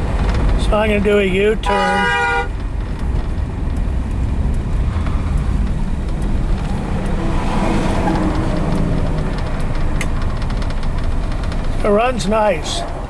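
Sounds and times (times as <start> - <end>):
car engine running: 0.0 - 13.0
road noise: 0.0 - 13.0.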